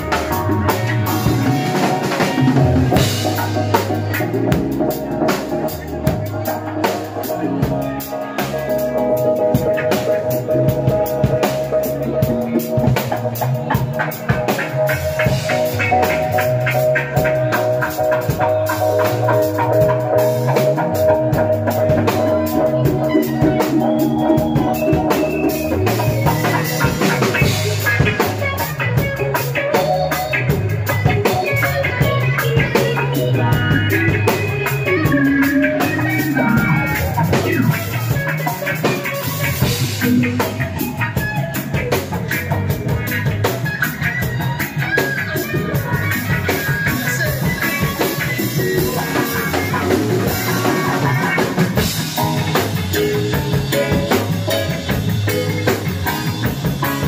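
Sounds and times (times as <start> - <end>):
reggae band playing: 0.0 - 57.0.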